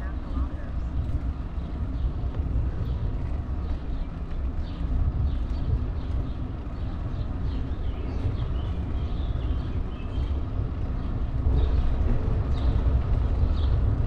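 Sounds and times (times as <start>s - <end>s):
bicycle tyre rumble: 0.0s - 14.0s
birds chirping: 0.0s - 14.0s
wind buffeting microphone: 0.0s - 14.0s.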